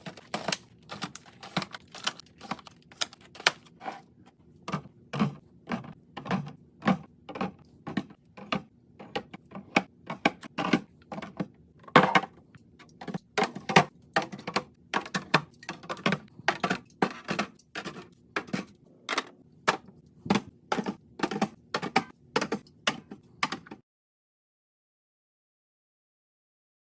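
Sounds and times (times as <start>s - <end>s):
hard items clacking and knocking: 0.0s - 23.8s.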